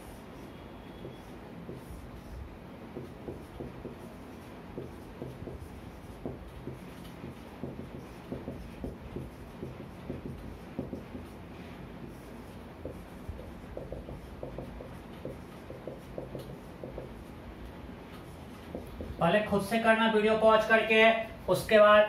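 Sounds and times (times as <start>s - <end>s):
marker writing on whiteboard: 0.0s - 19.9s.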